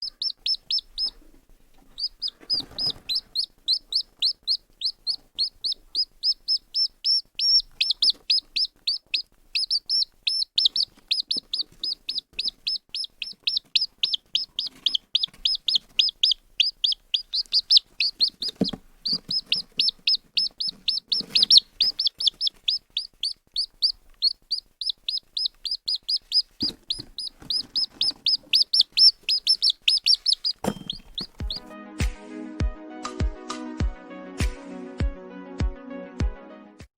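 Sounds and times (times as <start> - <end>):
chick peeping: 0.0 - 31.7.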